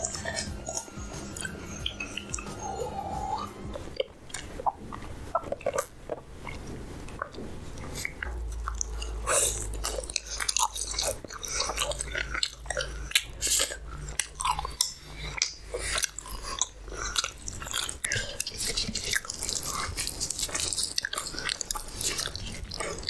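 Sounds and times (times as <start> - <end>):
person biting and chewing food: 0.0 - 23.0.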